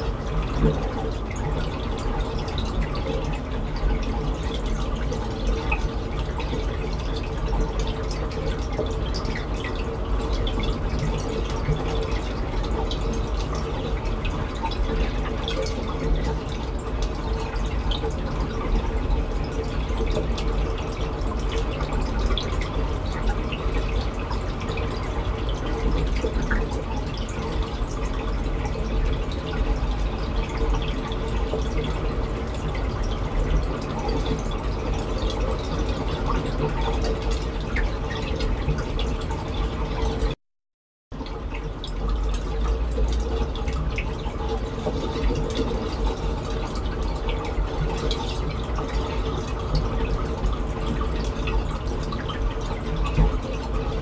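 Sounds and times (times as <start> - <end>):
low rumble of running water: 0.0 - 40.4, 41.1 - 54.0
small drips and pops: 0.0 - 40.4, 41.1 - 54.0
water trickling and bubbling: 0.0 - 40.4, 41.1 - 54.0.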